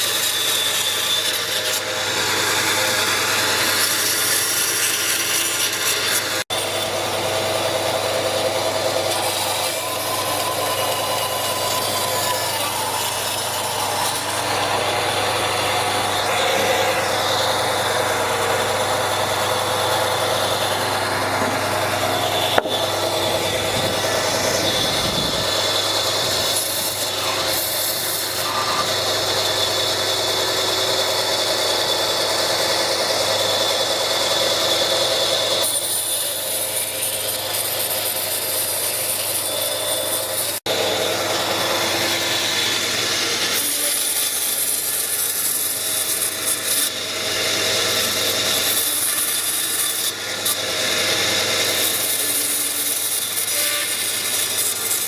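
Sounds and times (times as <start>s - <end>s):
wood being rasped: 0.0s - 55.0s
wood being sawn: 0.0s - 55.0s.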